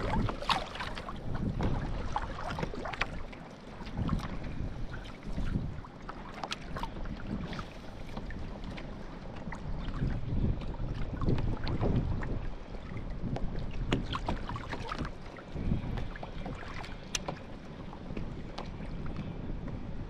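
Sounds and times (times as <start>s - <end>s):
water lapping against kayak hull: 0.0s - 20.0s
wind on microphone: 0.0s - 20.0s.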